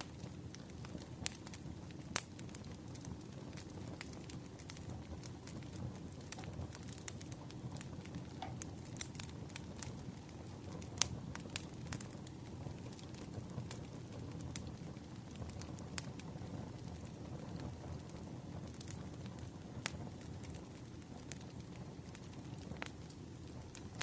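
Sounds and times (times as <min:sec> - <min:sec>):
firewood crackling: 0:00.0 - 0:24.0.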